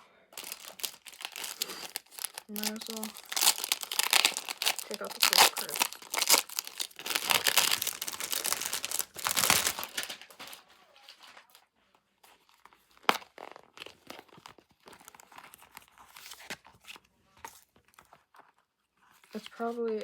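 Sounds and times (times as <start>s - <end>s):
packaging crinkling and tearing: 0.4s - 11.6s, 12.2s - 18.6s.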